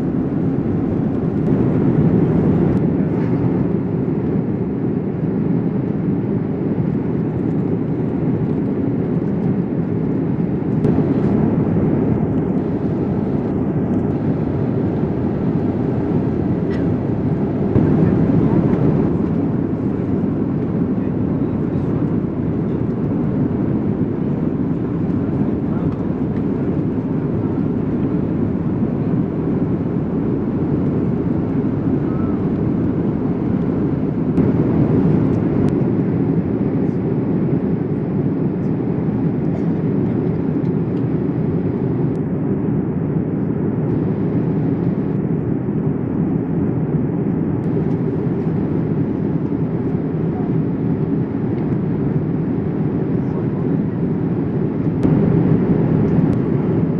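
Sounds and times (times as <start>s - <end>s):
aircraft cabin engine rush: 0.0s - 56.9s.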